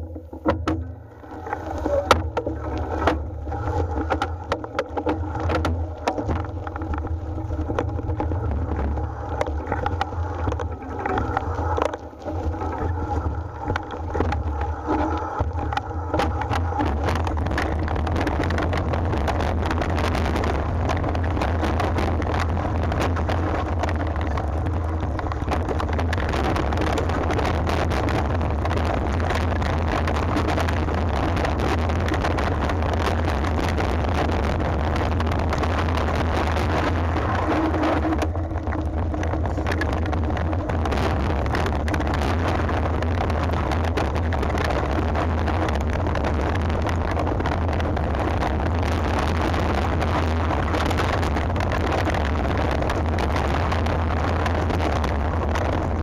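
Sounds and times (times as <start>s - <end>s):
bike rattling over stones: 0.0s - 56.0s
wind rumble on microphone: 0.0s - 56.0s.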